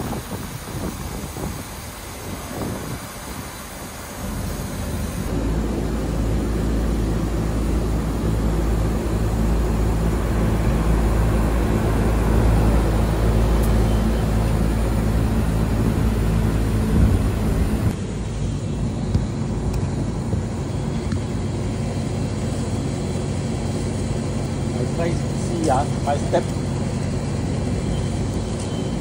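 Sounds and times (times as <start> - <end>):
outdoor unit machine hum: 0.0 - 29.0.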